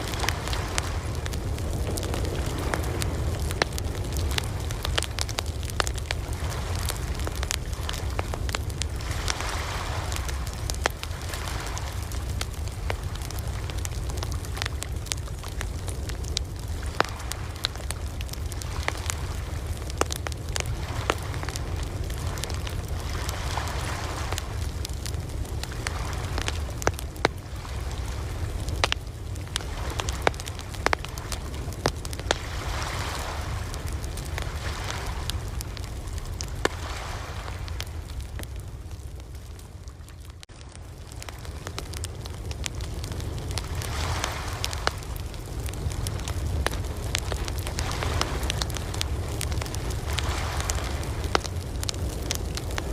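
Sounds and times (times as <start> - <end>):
surf washing: 0.0 - 38.9, 41.2 - 52.9
campfire crackling and popping: 0.0 - 52.9
ocean waves: 0.0 - 52.9.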